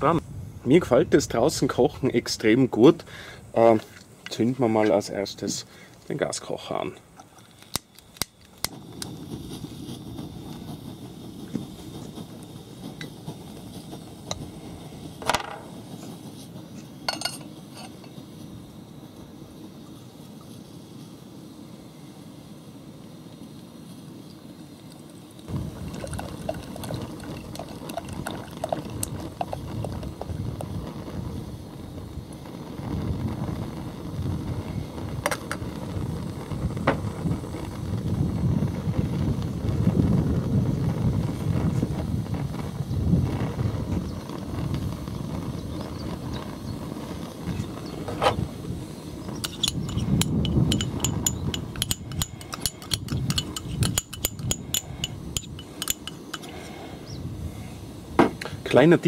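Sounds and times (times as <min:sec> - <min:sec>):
wind rumbling on microphone: 0:00.0 - 0:06.8, 0:07.7 - 0:19.7, 0:25.5 - 0:59.0.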